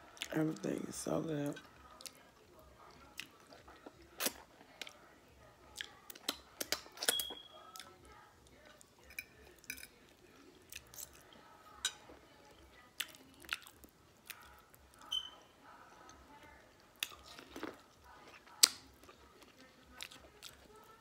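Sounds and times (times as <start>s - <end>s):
chewing corn on the cob: 1.7s - 5.1s, 5.7s - 11.5s, 12.4s - 15.1s, 15.9s - 21.0s.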